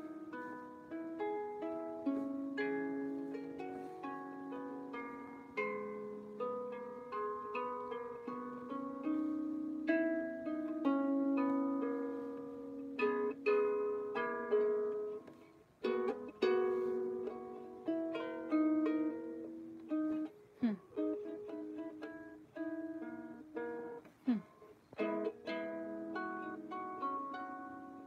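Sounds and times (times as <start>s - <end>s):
harp being plucked: 0.0s - 28.0s.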